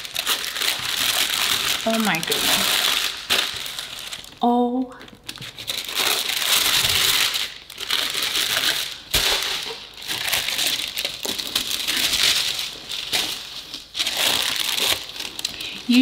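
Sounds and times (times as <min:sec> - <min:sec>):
tissue paper rustling: 0:00.0 - 0:04.3, 0:05.4 - 0:16.0.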